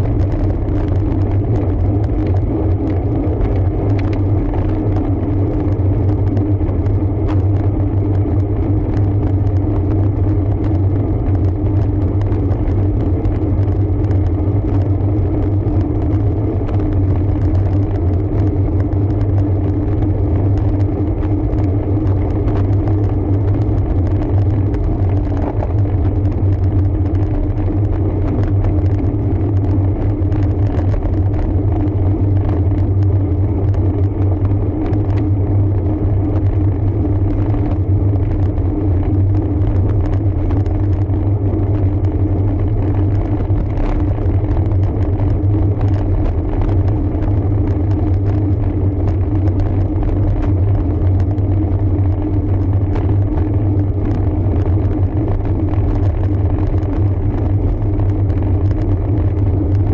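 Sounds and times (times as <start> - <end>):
bike road noise: 0.0 - 59.9
wind rumble: 0.0 - 59.9.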